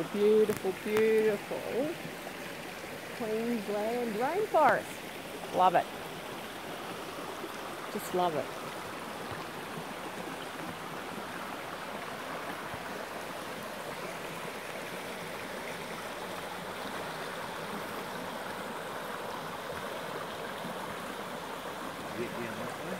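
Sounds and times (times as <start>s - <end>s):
creek water rushing over stones: 0.0s - 22.9s.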